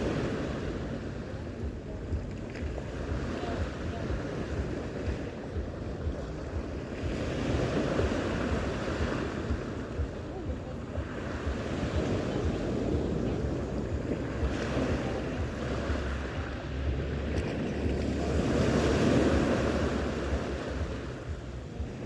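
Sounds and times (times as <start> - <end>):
sea waves washing on shore: 0.0 - 22.0
wind buffeting microphone: 0.0 - 22.0.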